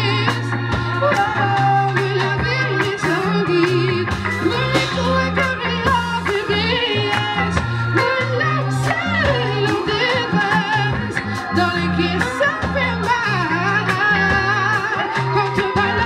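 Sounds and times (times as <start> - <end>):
live band playing: 0.0 - 16.0
woman singing with vibrato: 0.0 - 16.0.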